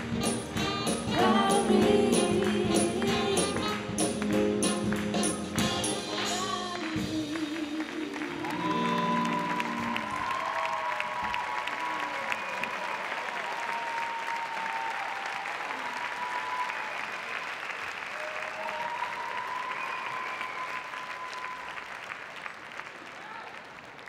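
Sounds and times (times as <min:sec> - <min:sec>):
audience applauding: 0:02.0 - 0:24.0.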